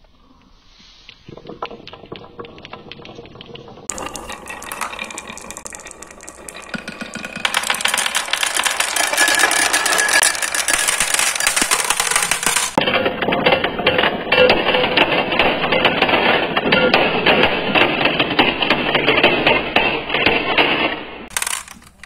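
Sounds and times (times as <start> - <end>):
balls knocking among wooden pegs: 0.0 - 22.0
marbles rattling on wooden track: 1.3 - 22.0.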